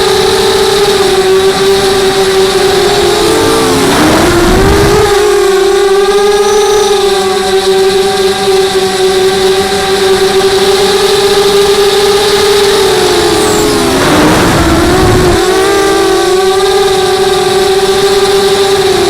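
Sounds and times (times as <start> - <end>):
quadcopter motors buzzing whine: 0.0 - 19.0.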